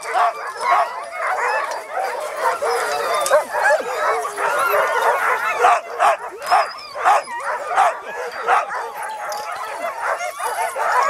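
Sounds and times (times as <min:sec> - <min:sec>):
dogs barking together: 0:00.0 - 0:11.0.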